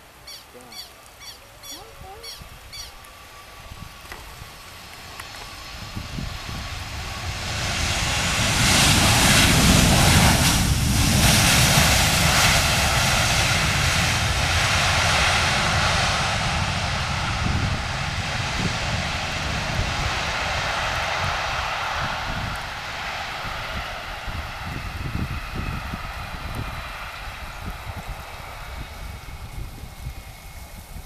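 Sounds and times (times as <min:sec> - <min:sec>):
jet engines roaring: 0:02.4 - 0:31.0.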